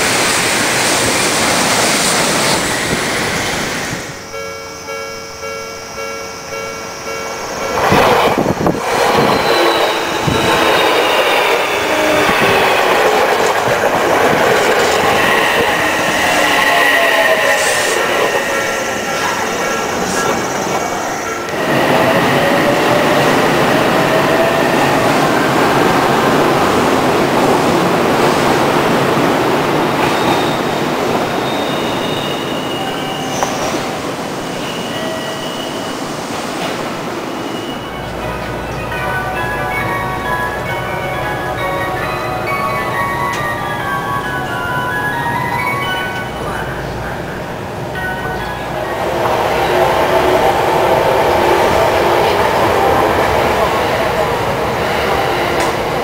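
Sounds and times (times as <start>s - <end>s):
train running noise: 0.0s - 56.0s
train whine sliding in pitch: 0.0s - 56.0s.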